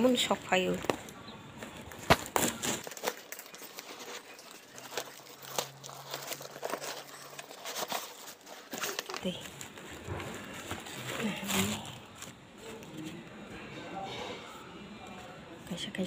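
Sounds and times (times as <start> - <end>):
paper parcel being torn and crumpled: 0.0 - 13.3.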